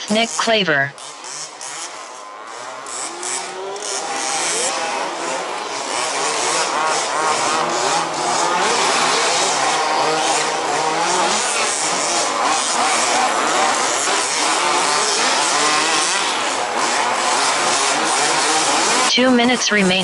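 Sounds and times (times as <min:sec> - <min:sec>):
rc buggy engines racing: 0:00.0 - 0:20.0.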